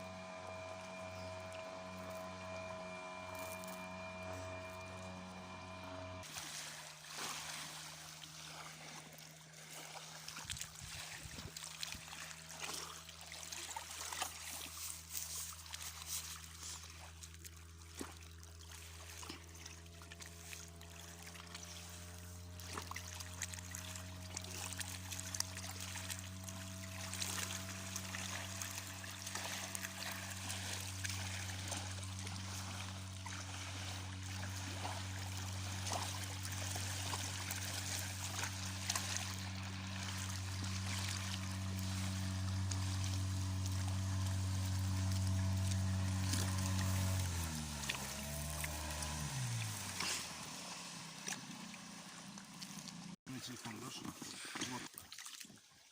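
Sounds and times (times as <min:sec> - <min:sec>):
outboard motor running: 0:00.0 - 0:55.0
water splashing along hull: 0:00.0 - 0:55.9.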